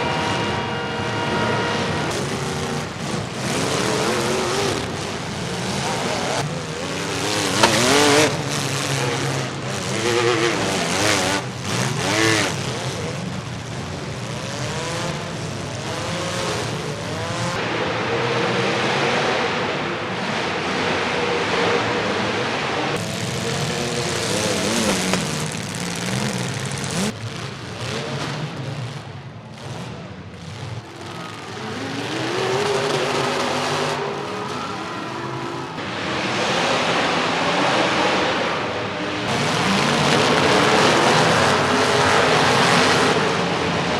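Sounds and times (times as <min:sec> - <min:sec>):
car engines revving hard: 0:00.0 - 0:43.9.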